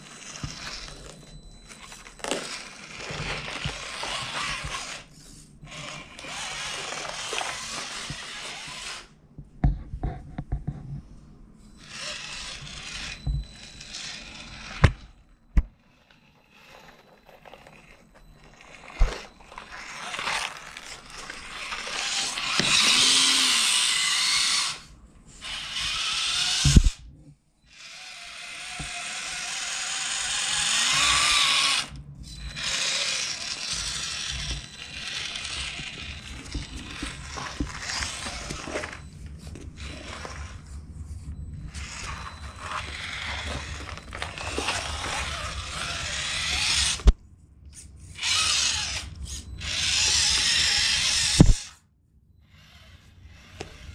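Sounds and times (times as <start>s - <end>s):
toy car electric motor whirring: 0.0s - 9.2s, 11.7s - 15.2s, 15.8s - 27.0s, 27.7s - 40.8s, 41.7s - 47.1s, 48.1s - 51.8s, 52.4s - 53.9s.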